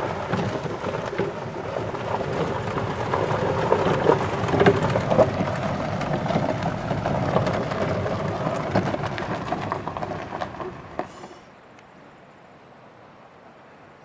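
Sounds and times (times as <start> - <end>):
tyres crunching on gravel road: 0.0 - 11.5.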